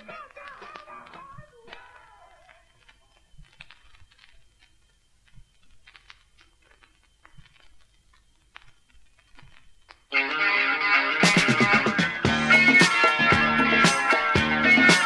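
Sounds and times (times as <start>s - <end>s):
vinyl clicks and pops: 0.0s - 15.0s.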